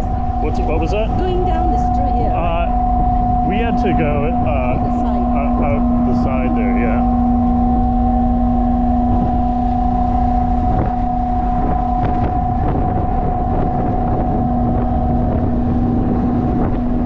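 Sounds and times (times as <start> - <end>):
ship machinery humming: 0.0 - 17.0
wind buffeting microphone: 0.0 - 17.0.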